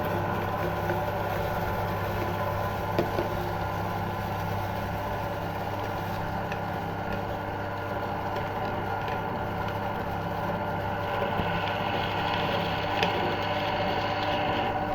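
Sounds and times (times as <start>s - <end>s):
meat grinder motor humming: 0.0s - 14.9s.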